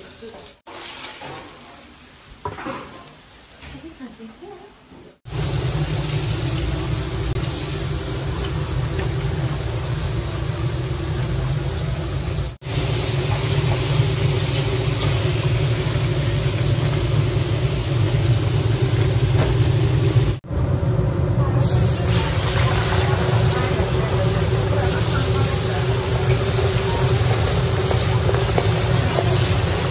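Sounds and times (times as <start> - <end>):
hot oil bubbling and sizzling: 0.0 - 20.5, 21.6 - 29.9
gas burner rumble: 5.1 - 29.9.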